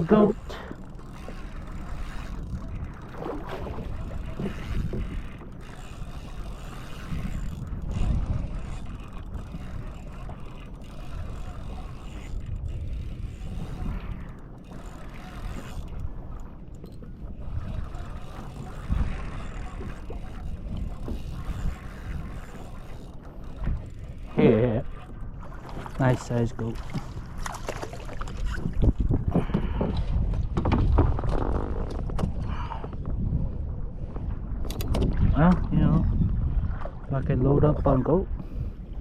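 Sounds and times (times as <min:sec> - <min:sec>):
water sloshing against kayak: 0:00.0 - 0:39.0
wind buffeting microphone: 0:00.0 - 0:39.0.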